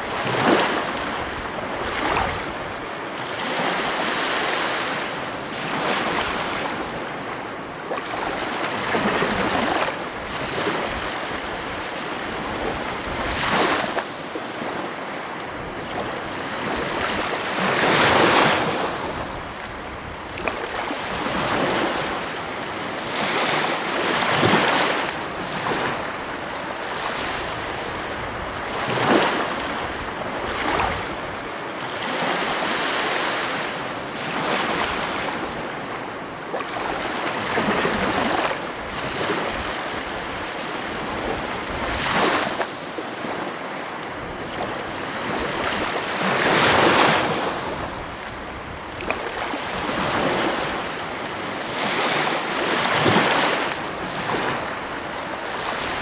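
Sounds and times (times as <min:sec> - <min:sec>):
ocean waves crashing: 0:00.0 - 0:56.0.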